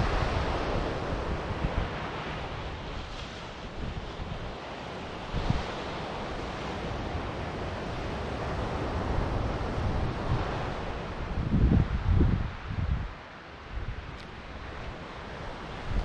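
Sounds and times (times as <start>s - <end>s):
ocean waves breaking on beach: 0.0s - 16.0s
wind buffeting microphone: 0.0s - 16.0s.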